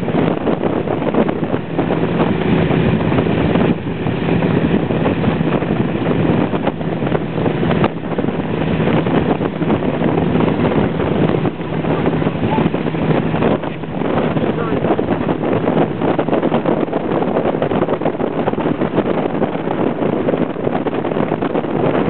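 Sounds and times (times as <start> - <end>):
motorboat engine drone: 0.0 - 22.0
water rushing and splashing: 0.0 - 22.0
wind buffeting microphone: 0.0 - 22.0.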